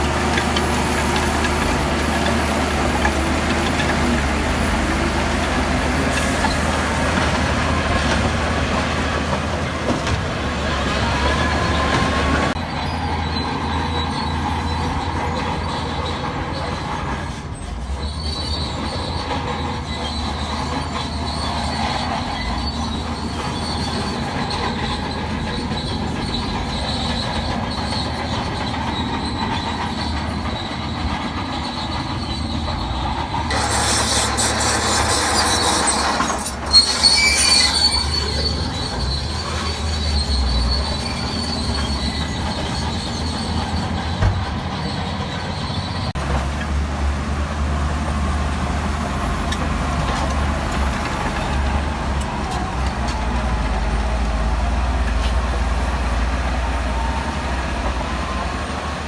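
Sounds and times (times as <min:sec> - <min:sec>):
bulldozer engine running: 0:00.0 - 0:59.0
bulldozer tracks squealing and clanking: 0:00.0 - 0:59.0.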